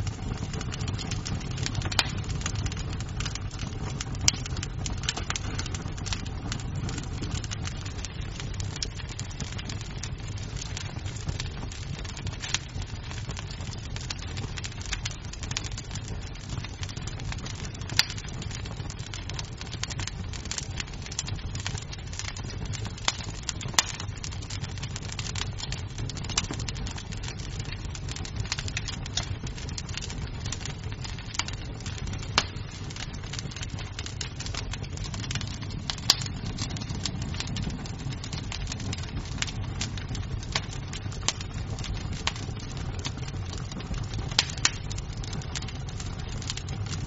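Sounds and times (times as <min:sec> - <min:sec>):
low rumble of fire: 0:00.0 - 0:47.0
wood fire crackling: 0:00.0 - 0:47.0.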